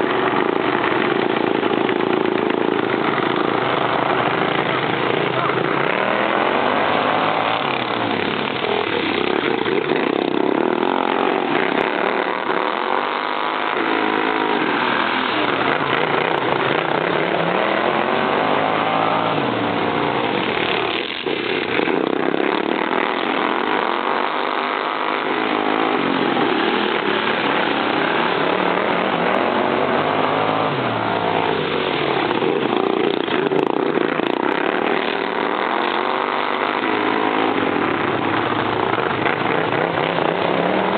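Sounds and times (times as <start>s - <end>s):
racing lawn mower engines: 0.0s - 40.9s.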